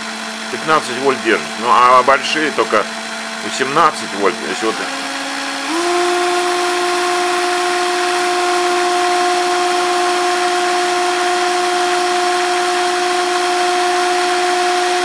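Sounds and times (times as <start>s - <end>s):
cordless drill whining: 0.0s - 15.0s.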